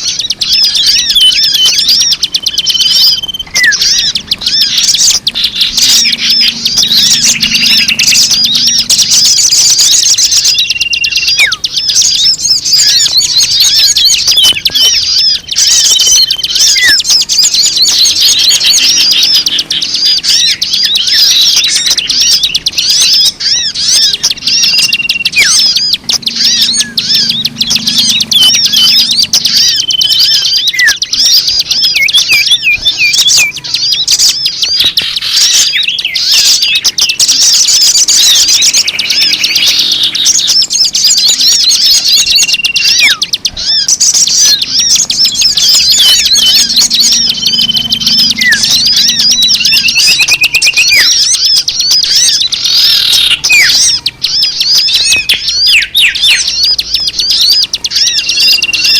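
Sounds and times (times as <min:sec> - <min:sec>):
steady whistle notes: 0:00.0 - 0:34.2, 0:34.8 - 0:58.9
chorus of small birds chirping: 0:00.0 - 0:58.9.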